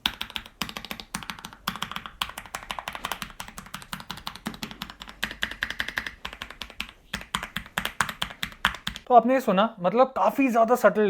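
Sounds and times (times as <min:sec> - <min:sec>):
mechanical keyboard typing: 0:00.0 - 0:09.1.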